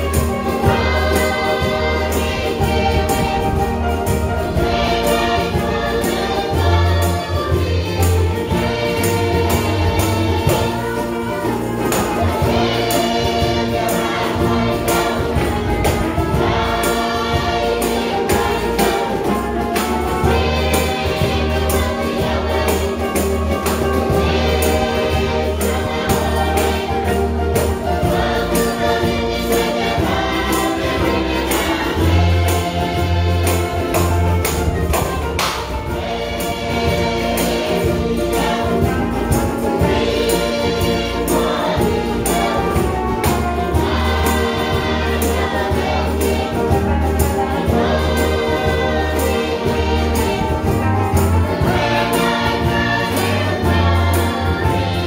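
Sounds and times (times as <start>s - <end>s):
mixed choir singing in harmony: 0.0s - 55.0s
strummed acoustic guitars: 0.0s - 55.0s
tambourines shaking: 0.0s - 55.0s
ukuleles strumming: 0.0s - 55.0s.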